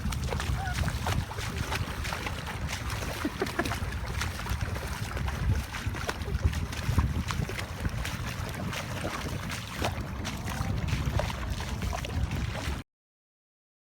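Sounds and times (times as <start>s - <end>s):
wind buffeting microphone: 0.0s - 12.8s.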